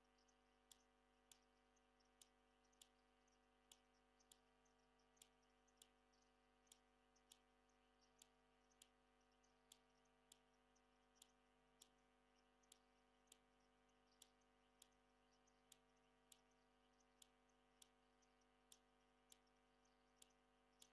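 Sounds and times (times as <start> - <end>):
faint sharp clicks: 0.0 - 20.9
faint steady hum: 0.0 - 20.9.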